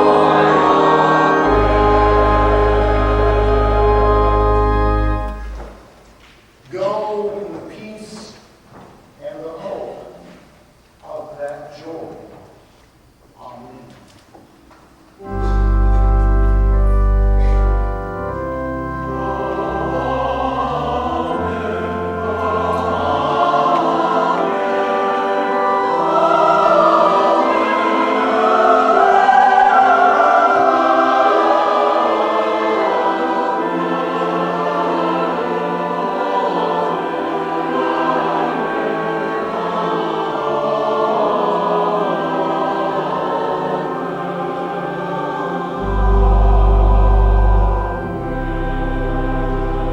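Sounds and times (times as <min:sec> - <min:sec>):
congregation singing a hymn: 0:00.0 - 0:06.0, 0:15.2 - 0:49.9
organ playing: 0:00.0 - 0:06.0, 0:15.2 - 0:49.9.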